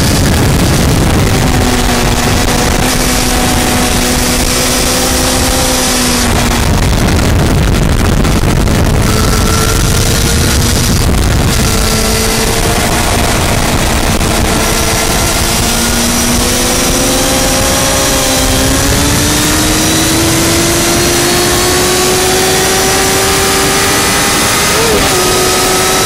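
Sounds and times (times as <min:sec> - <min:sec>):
motorcycle engine under power: 0:00.0 - 0:26.0
wind rushing: 0:00.0 - 0:26.0.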